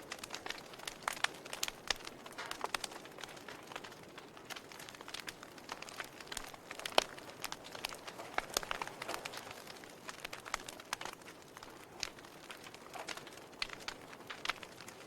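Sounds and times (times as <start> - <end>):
soft fire hiss: 0.0 - 15.0
wood fire crackling and popping: 0.0 - 15.0.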